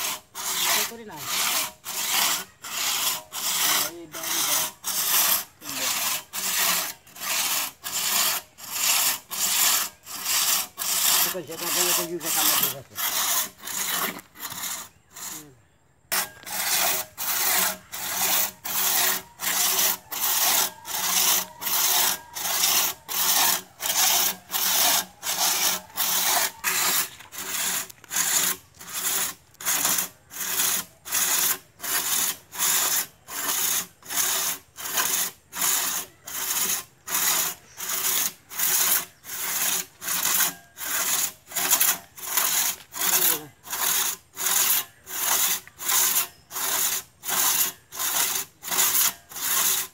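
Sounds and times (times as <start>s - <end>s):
hand saw rasping through wood: 0.0s - 15.5s, 16.1s - 49.9s.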